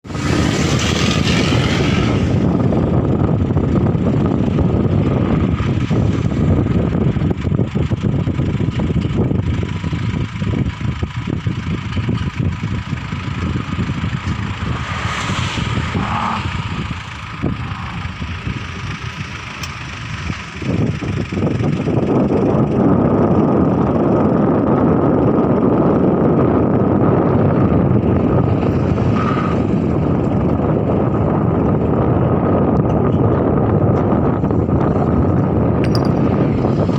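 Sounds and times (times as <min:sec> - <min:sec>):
vehicle engine and road noise: 0:00.0 - 0:36.9
wind on microphone: 0:00.0 - 0:36.9.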